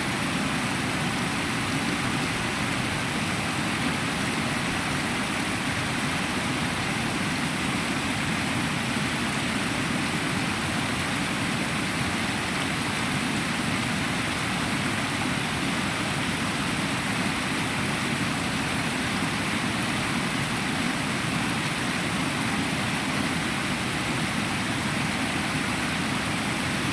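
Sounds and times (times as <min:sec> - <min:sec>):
stream water rushing: 0:00.0 - 0:26.9.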